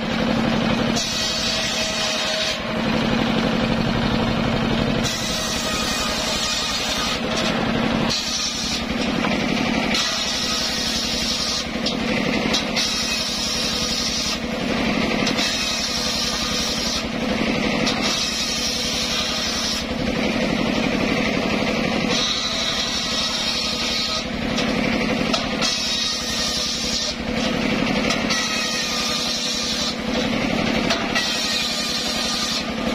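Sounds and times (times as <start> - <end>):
circular saw cutting wood: 0.0 - 32.9
engine droning: 0.0 - 32.9.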